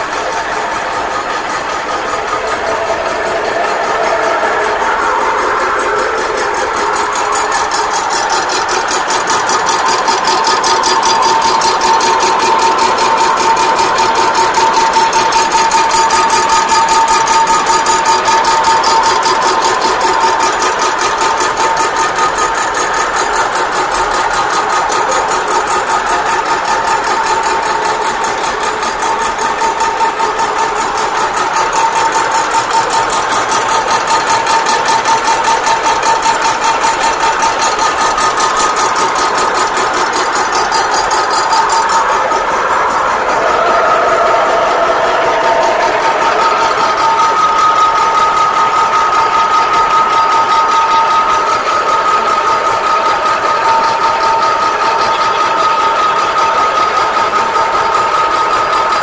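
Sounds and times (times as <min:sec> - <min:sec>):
milling machine whining and pulsing: 0:00.0 - 0:59.0.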